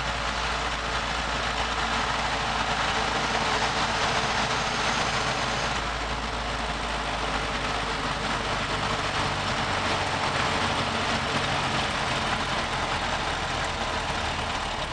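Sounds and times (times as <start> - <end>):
road and wind noise: 0.0 - 14.9
truck engine running: 0.0 - 14.9.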